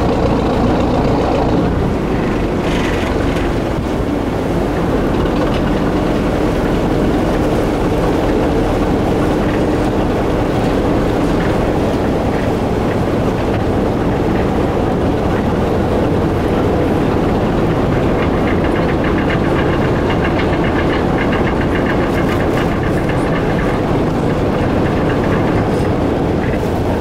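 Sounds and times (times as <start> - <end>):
ferry diesel engine drone: 0.0 - 27.0
light rapid ticking rattle: 0.0 - 27.0.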